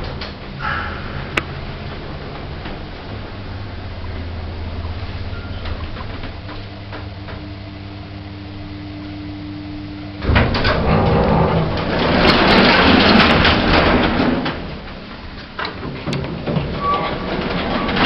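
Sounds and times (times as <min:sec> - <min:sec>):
lift doors sliding with rattling rumble: 0:00.0 - 0:18.0
lift humming: 0:00.0 - 0:18.0.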